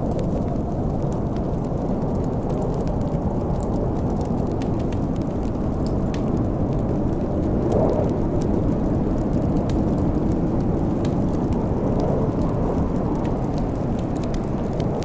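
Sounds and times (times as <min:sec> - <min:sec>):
deep snowstorm wind: 0:00.0 - 0:15.0
wood fire crackling: 0:00.0 - 0:15.0.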